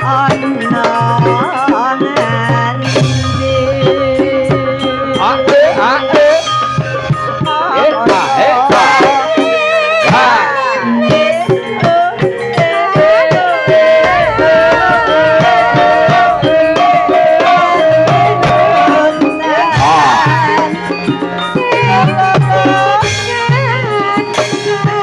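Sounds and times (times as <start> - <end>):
hand drum strokes: 0.0 - 25.0
metallophone tones: 0.0 - 25.0
person singing wavering melody: 0.0 - 25.0.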